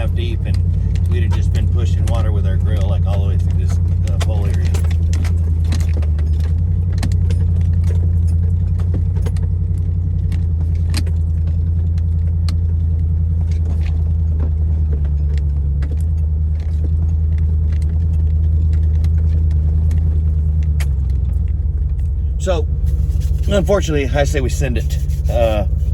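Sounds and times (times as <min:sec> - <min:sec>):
engine and drivetrain rumble: 0:00.0 - 0:25.9.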